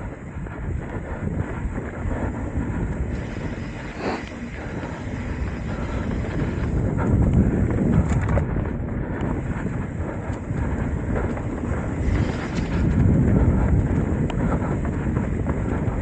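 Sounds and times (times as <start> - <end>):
bike rattling and knocking: 0.0 - 16.0
tyres rolling on dirt trail: 0.0 - 16.0
wind buffeting microphone: 0.0 - 16.0.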